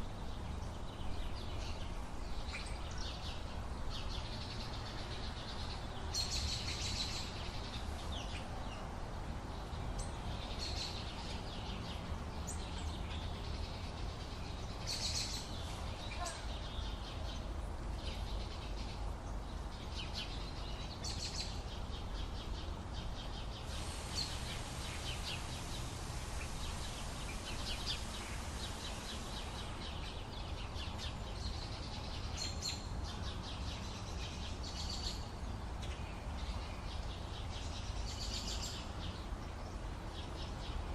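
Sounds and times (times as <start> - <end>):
low rumble of background noise: 0.0 - 40.9
small birds chirping: 0.0 - 40.9.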